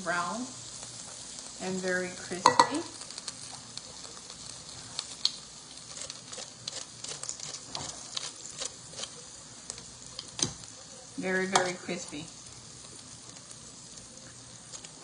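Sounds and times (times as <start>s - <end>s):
chicken wings sizzling: 0.0s - 15.0s
fat popping and crackling: 0.7s - 10.8s, 11.4s - 15.0s.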